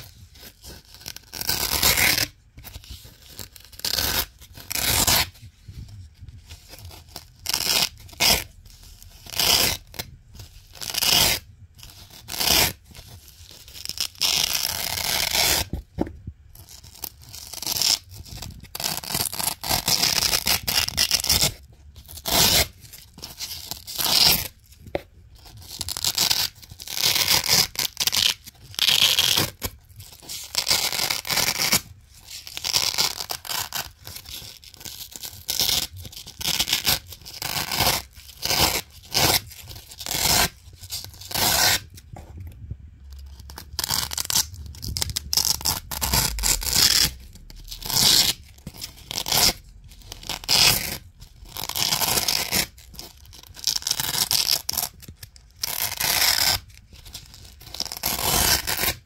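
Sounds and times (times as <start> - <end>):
velcro ripping: 0.8 - 5.4, 6.7 - 12.8, 13.4 - 15.7, 16.7 - 21.5, 22.1 - 22.7, 23.6 - 24.5, 25.7 - 29.7, 30.3 - 31.8, 32.4 - 42.0, 43.1 - 59.0.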